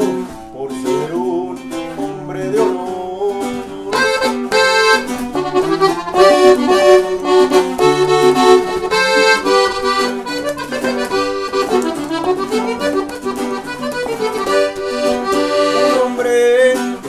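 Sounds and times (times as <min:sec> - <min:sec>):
accordion melody: 0:00.0 - 0:17.0.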